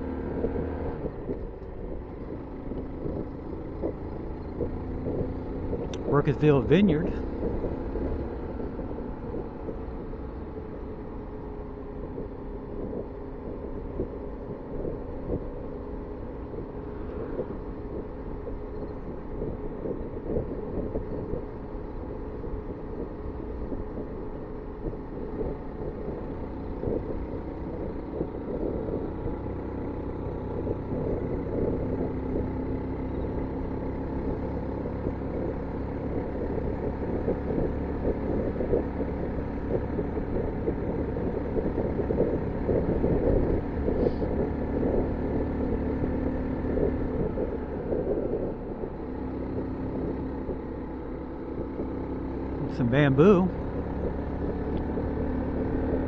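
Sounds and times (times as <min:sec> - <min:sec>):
wind rumble on microphone: 0:00.0 - 0:06.2, 0:06.9 - 0:56.0
motorcycle engine running: 0:00.0 - 0:56.0.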